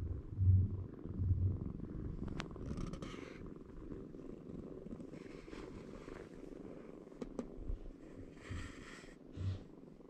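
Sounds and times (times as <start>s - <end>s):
kitten purring: 0.0s - 10.0s.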